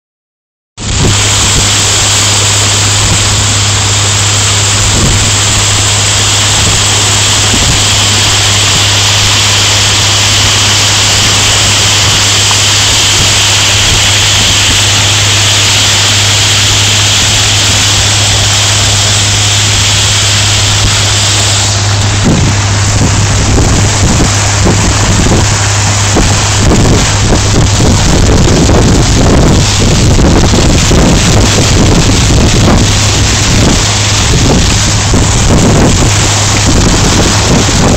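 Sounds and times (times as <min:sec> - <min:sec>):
boat engine humming: 0:00.8 - 0:37.9
water rushing along hull: 0:00.8 - 0:37.9
wind buffeting microphone: 0:00.8 - 0:37.9.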